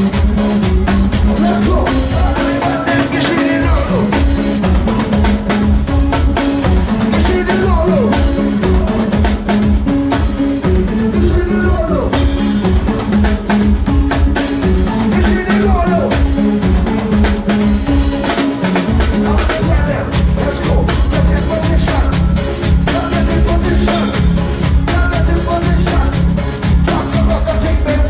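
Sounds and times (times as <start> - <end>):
drum kit beat: 0.0 - 28.0
repeating bass line: 0.0 - 28.0.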